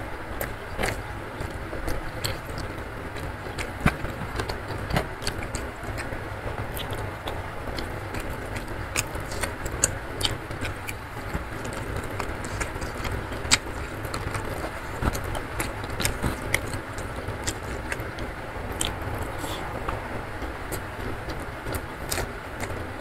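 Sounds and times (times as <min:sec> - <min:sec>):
low rumble and hiss: 0:00.0 - 0:23.0
chewing with wet smacks: 0:00.2 - 0:23.0
fingers squishing rice: 0:00.4 - 0:23.0.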